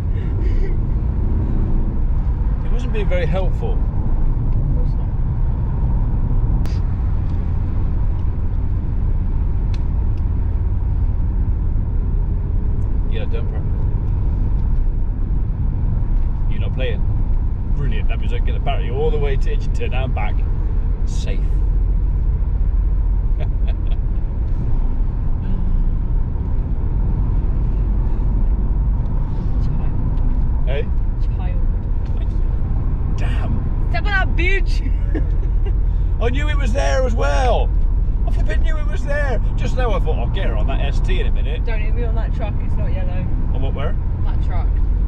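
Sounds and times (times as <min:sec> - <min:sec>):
vehicle engine and road noise: 0:00.0 - 0:45.0.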